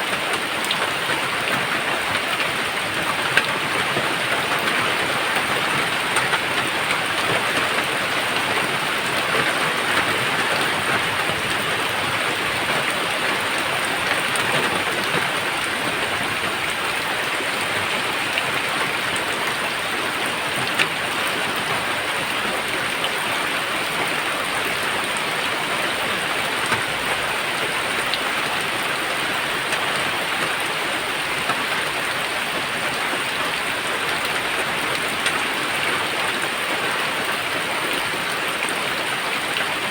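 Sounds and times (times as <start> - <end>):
heavy steady rain: 0.0 - 39.9
raindrop ticks: 0.1 - 36.8.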